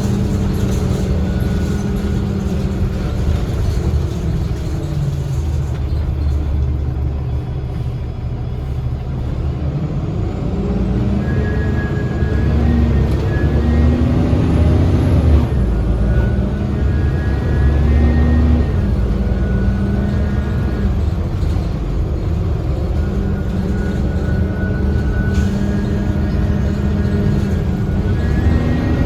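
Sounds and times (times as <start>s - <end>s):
bus diesel engine drone: 0.0s - 29.0s.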